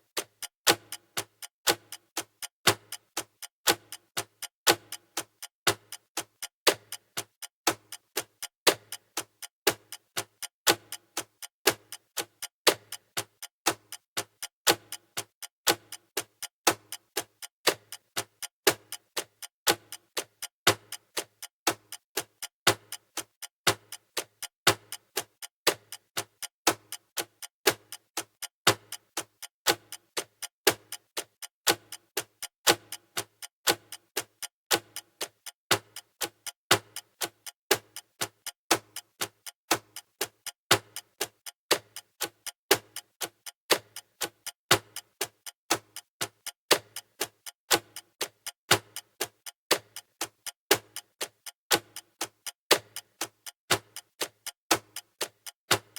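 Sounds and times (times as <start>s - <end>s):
countdown timer ticking: 0.2s - 55.9s.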